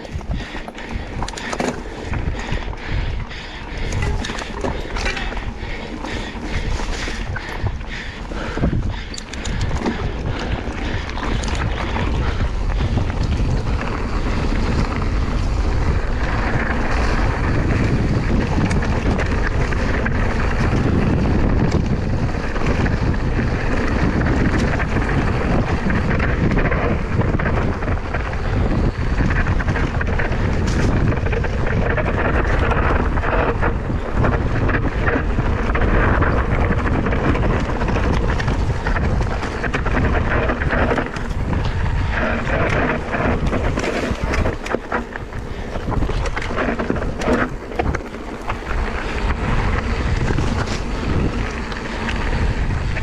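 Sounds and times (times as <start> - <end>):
bike rattling: 0.0 - 53.0
wind buffeting microphone: 0.0 - 53.0.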